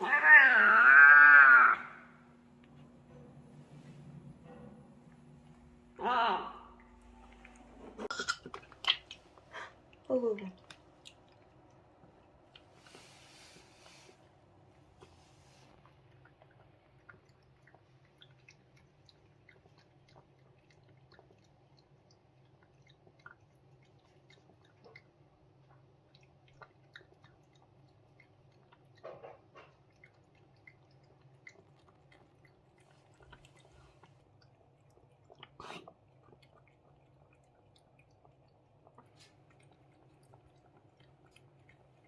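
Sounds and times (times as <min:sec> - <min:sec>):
cat chewing and eating: 0:00.0 - 0:06.0, 0:06.7 - 0:42.0.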